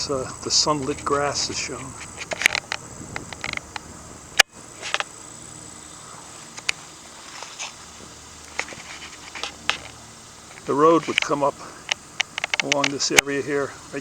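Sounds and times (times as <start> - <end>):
insects buzzing: 0.0 - 14.0
rustles and clicks: 0.0 - 14.0.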